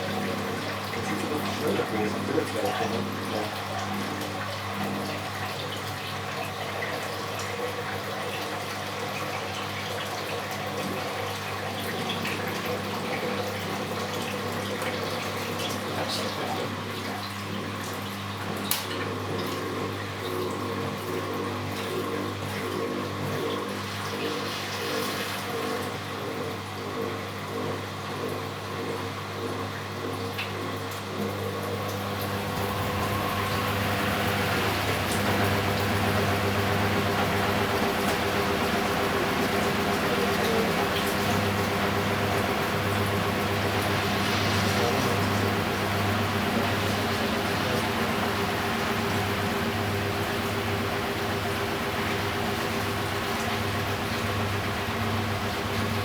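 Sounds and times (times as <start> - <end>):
washing machine motor hum: 0.0 - 56.0
water sloshing in washing machine: 0.0 - 56.0.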